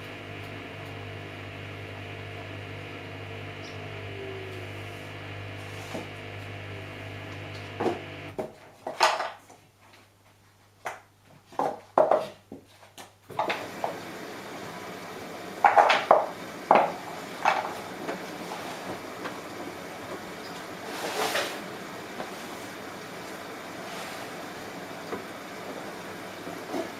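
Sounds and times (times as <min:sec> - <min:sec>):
washing machine motor hum: 0:00.0 - 0:08.4, 0:13.3 - 0:26.9.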